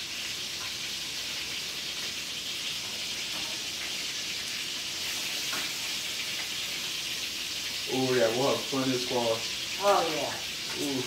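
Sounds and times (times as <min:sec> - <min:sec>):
oil sizzling in a skillet: 0:00.0 - 0:11.0.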